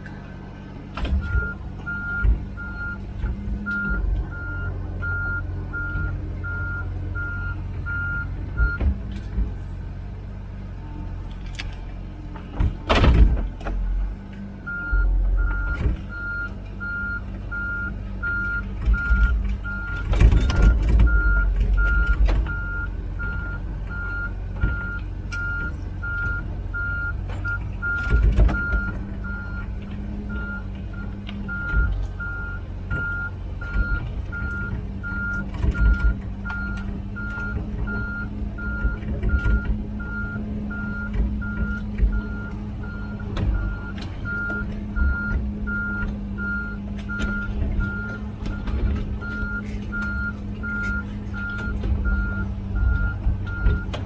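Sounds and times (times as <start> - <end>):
diesel engine running: 0.0 - 54.0
loud clunks and clatter: 0.8 - 4.4, 11.3 - 16.7, 18.3 - 54.0
travel alarm beeping: 1.2 - 3.0, 3.7 - 8.8, 14.7 - 29.6, 30.3 - 53.9.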